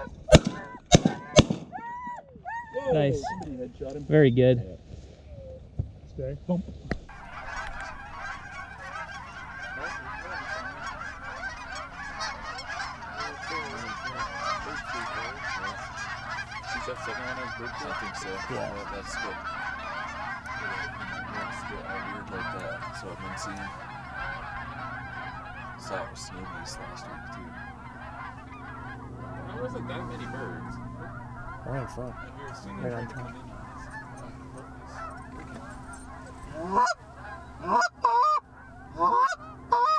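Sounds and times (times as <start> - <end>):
geese honking: 0.0 - 3.4, 7.1 - 39.9.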